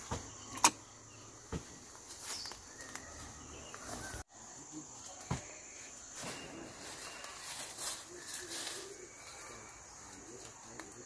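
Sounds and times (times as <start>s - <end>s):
crickets droning: 0.0s - 11.0s
rustles: 1.3s - 4.2s, 4.8s - 11.0s.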